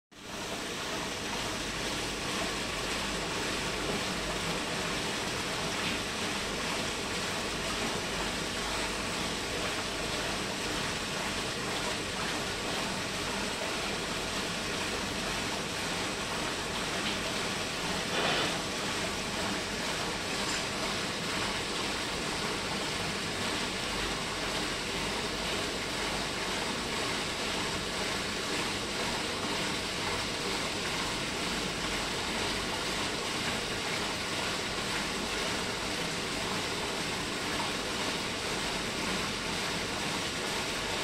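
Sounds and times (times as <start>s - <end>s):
water rushing through pipes: 0.2s - 41.0s.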